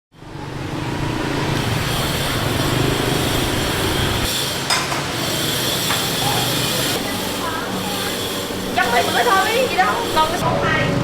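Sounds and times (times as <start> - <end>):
busy background noise: 0.2 - 11.0.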